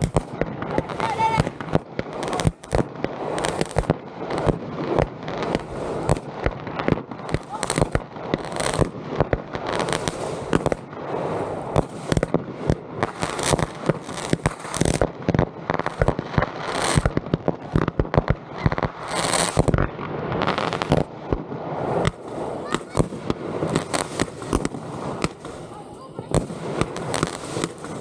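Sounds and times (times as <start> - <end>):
fireworks bangs and crackling: 0.0 - 28.0
fireworks hissing bursts: 0.0 - 28.0.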